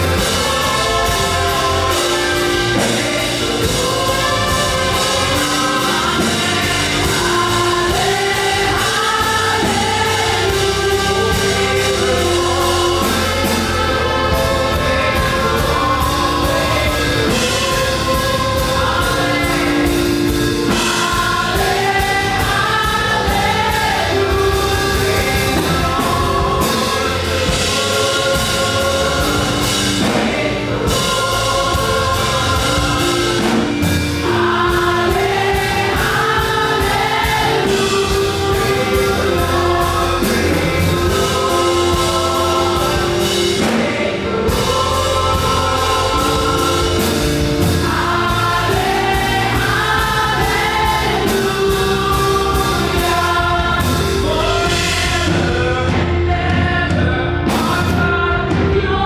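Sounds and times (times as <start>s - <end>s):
choir singing gospel song: 0.0s - 59.0s
live band playing: 0.0s - 59.0s.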